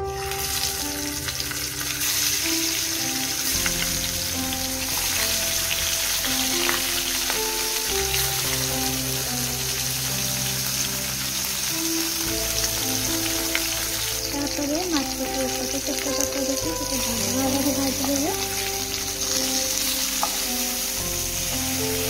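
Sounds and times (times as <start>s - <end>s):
background music with bass: 0.0s - 22.0s
fish frying in oil: 0.0s - 22.0s.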